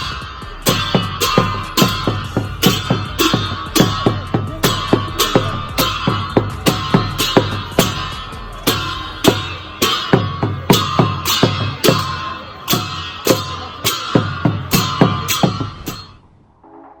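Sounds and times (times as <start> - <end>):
low drum thumps: 0.0 - 16.2
ringing cymbal clashes: 0.0 - 16.3.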